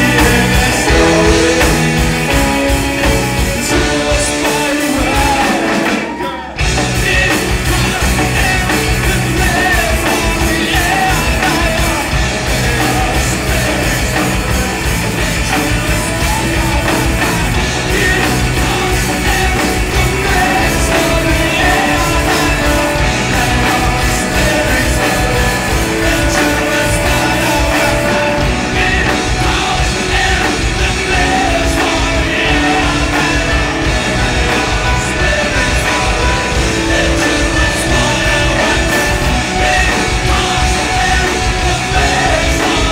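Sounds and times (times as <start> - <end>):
drums: 0.0 - 42.9
electric guitar: 0.0 - 42.9
person singing: 0.0 - 42.9.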